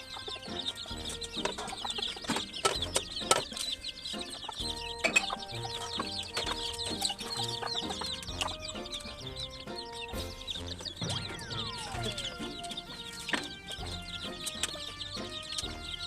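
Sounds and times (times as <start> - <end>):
chickens clucking: 0.0 - 16.0
music with held notes: 0.0 - 16.0.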